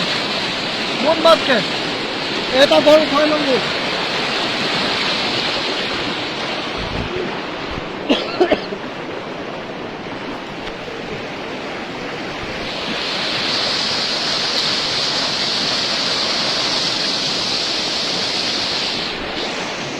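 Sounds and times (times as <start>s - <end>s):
floodwater rushing: 0.0s - 19.9s.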